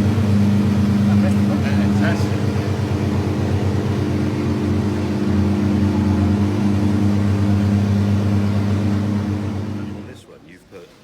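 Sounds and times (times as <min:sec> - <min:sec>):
car engine running at low revs: 0:00.0 - 0:10.2.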